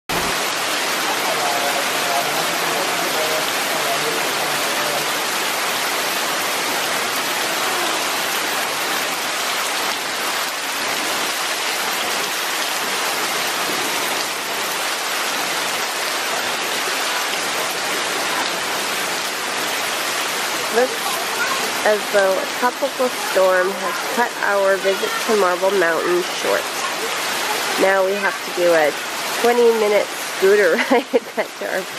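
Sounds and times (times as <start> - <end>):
heavy rain pouring on leaves: 0.1 - 31.9.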